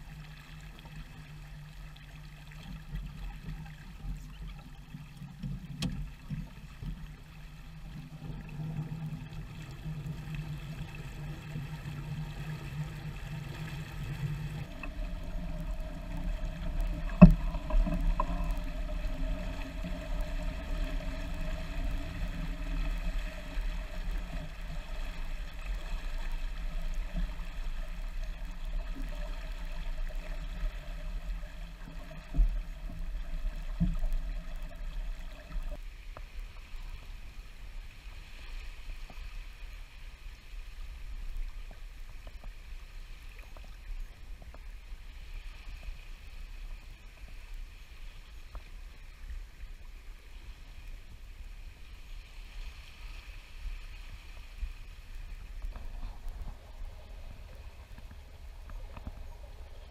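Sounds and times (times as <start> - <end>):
water rushing along hull: 0.0 - 59.9
wind rumble on microphone: 2.8 - 59.9.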